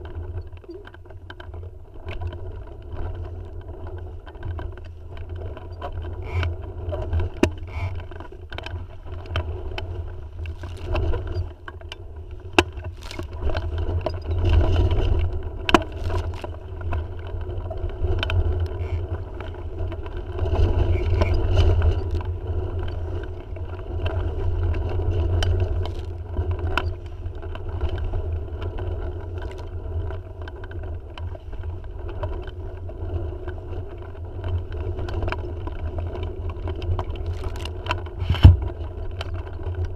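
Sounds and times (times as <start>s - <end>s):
wind buffeting microphone: 4.9s - 39.9s.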